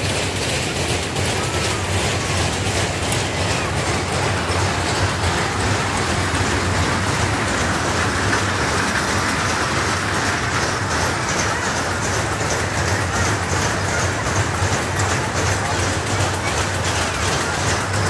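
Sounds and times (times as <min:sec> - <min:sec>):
ride machinery rumbling and rattling: 0:00.0 - 0:18.0.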